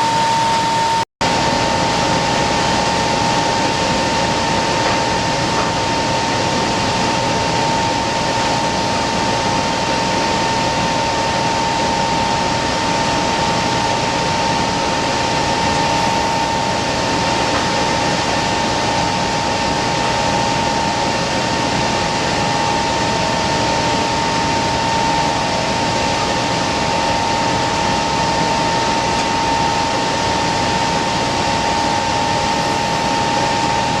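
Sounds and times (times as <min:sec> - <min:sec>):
constant high hum: 0:00.0 - 0:34.0.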